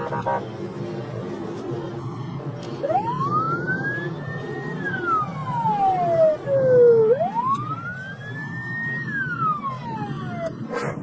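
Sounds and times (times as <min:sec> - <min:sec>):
emergency vehicle siren wailing: 0:00.0 - 0:11.0
low rumble of vehicle noise: 0:00.0 - 0:11.0.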